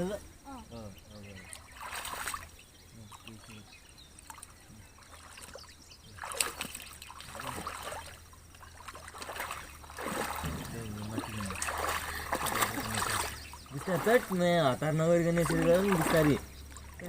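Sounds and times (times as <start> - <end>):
pond water splashing: 0.0 - 17.0.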